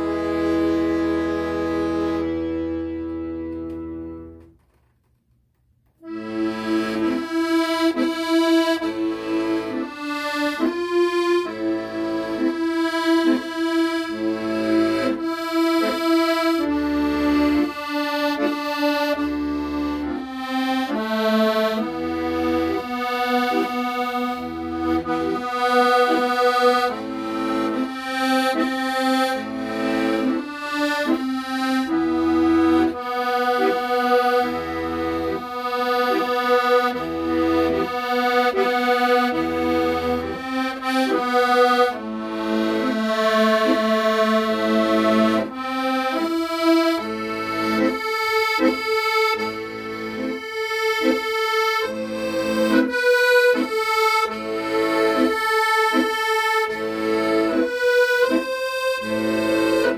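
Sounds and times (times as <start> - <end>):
accordion playing melody: 0.0 - 4.6, 6.0 - 59.9.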